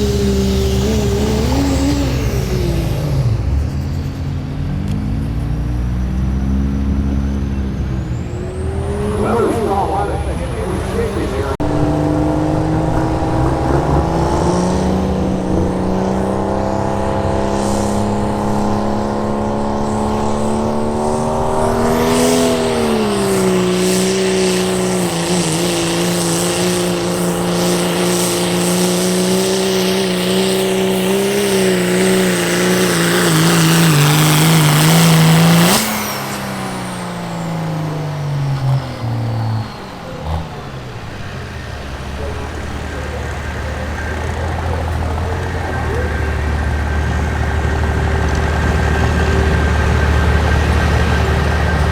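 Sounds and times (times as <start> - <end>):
diesel engine at high revs: 0.0 - 51.9.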